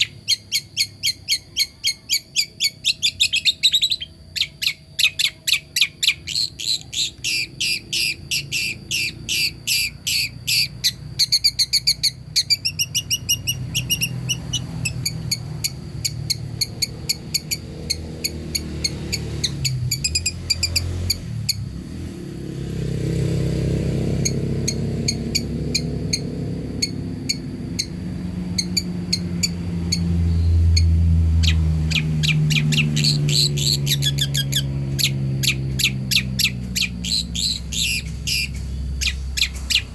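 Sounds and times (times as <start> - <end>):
bird sharp chirps: 0.0 - 21.7, 24.2 - 39.9.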